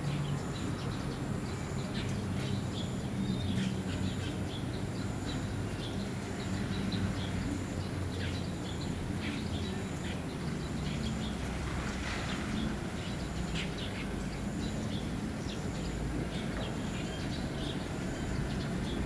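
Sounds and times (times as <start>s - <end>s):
starlings chirping: 0.0s - 19.0s.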